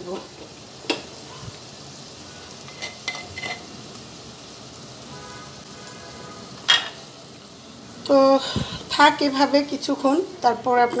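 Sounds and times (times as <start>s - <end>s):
fish curry sizzling in a pot: 0.0s - 11.0s.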